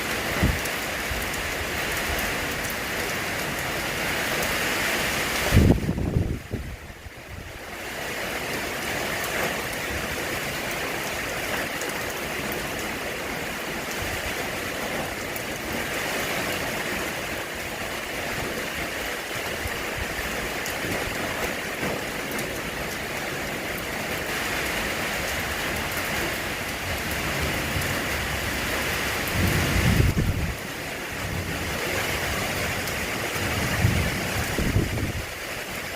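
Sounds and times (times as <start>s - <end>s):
rain falling steadily: 0.0s - 35.9s.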